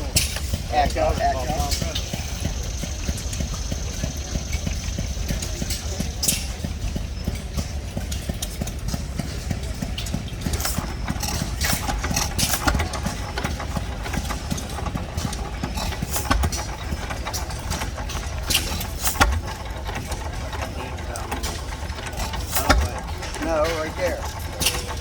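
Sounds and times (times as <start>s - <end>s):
stationary engines chugging: 0.0s - 25.0s.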